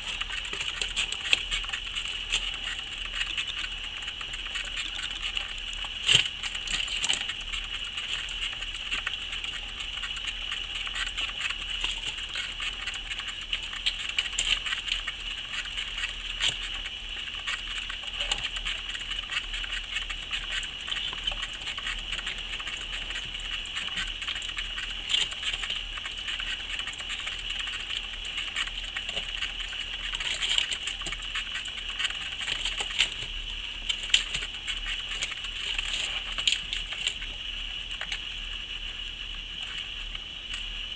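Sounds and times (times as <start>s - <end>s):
exercise wheel whirring: 0.0s - 38.3s
patter of small feet: 0.0s - 40.9s.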